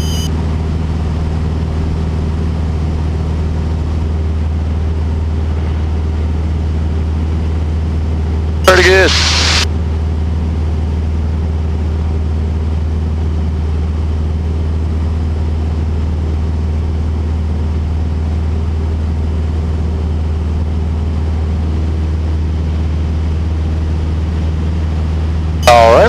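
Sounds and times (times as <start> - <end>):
aircraft engine drone in cabin: 0.0 - 26.0.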